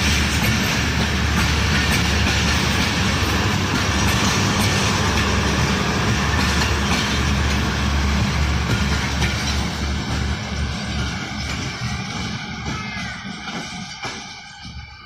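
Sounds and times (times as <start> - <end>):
train rumbling past: 0.0 - 15.0
train wheel clacks: 0.0 - 15.0.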